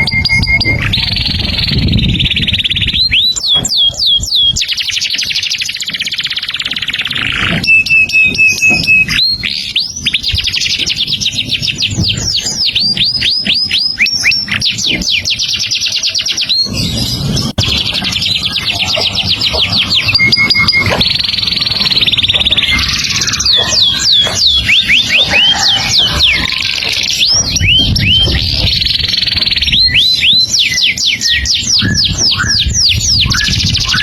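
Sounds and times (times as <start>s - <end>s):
songbird singing trills: 0.0s - 34.0s.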